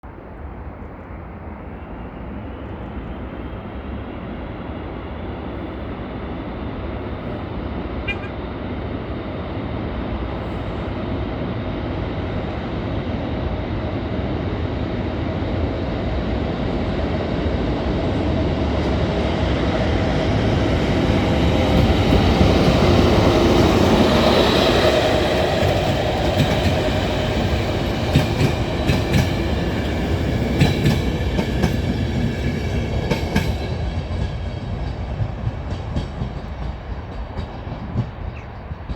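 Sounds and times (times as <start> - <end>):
train rumble: 0.0 - 38.9.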